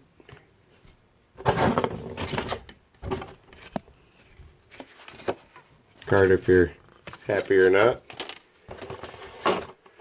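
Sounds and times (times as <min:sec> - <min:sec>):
paper and packaging rustling: 0:01.4 - 0:10.0.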